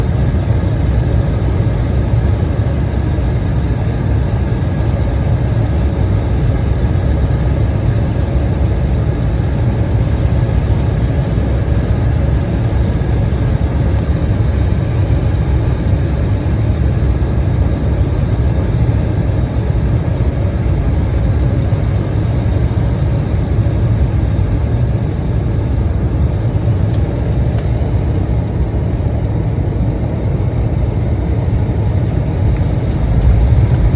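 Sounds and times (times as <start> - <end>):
airflow rushing in aircraft cabin: 0.0 - 33.9
faint steady whining tones: 0.0 - 33.9
turbofan engines humming: 0.0 - 33.9.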